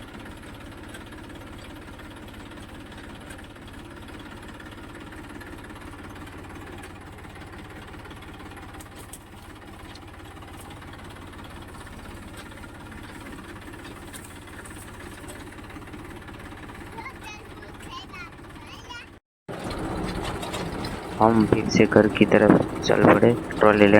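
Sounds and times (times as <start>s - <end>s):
tractor diesel engine chugging: 0.0s - 23.9s.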